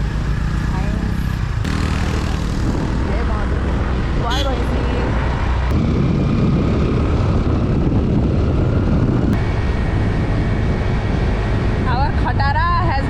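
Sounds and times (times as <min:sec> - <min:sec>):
vehicle engine droning: 0:00.0 - 0:13.0
wind on microphone: 0:01.1 - 0:13.0.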